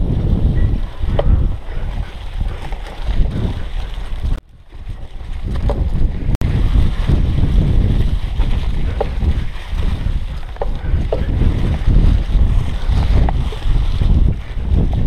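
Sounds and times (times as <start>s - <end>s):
bike rumbling over dirt trail: 0.0s - 15.0s
wind rushing over microphone: 0.0s - 15.0s.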